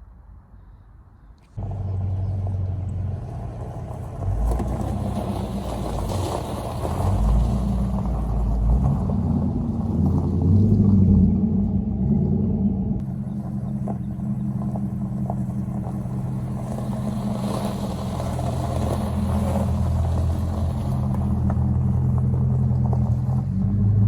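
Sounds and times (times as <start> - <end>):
car engine rumbling: 1.4 - 24.0.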